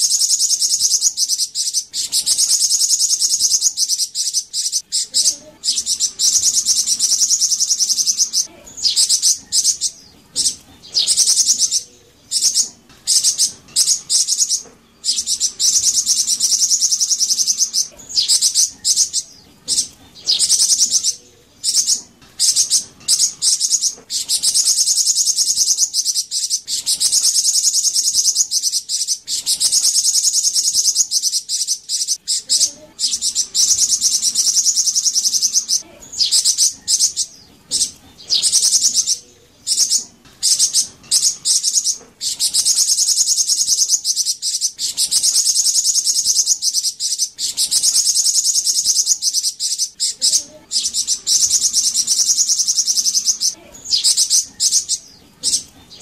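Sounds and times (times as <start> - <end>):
songbird buzzy chirping: 0.0 - 56.0.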